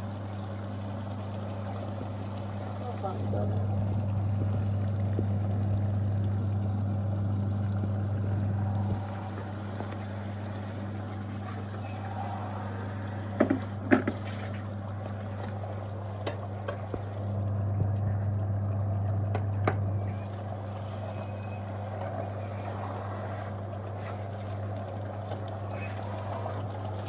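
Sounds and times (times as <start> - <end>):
pot simmering with hum and hiss: 0.0 - 27.0.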